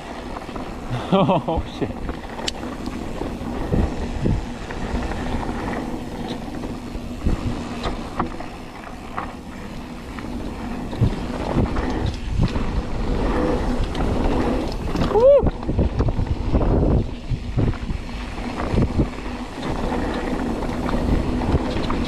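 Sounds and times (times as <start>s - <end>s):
bike knocks and rattles: 0.0s - 22.0s
bike tyres on dirt: 0.0s - 22.0s
wind on microphone: 0.0s - 22.0s.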